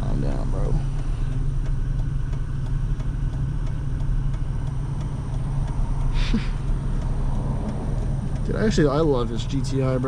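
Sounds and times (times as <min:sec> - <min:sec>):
car engine rumbling: 0:00.0 - 0:10.0
road noise: 0:00.0 - 0:10.0.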